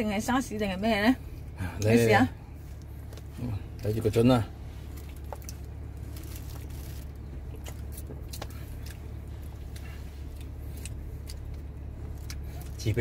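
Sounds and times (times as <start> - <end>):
car cabin engine hum: 0.0 - 13.0.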